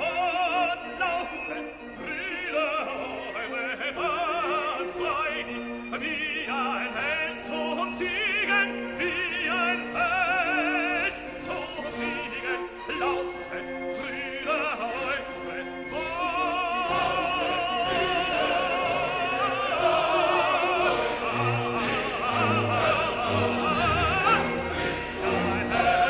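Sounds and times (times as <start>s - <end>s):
operatic singing: 0.0s - 26.0s
orchestral accompaniment: 0.0s - 26.0s.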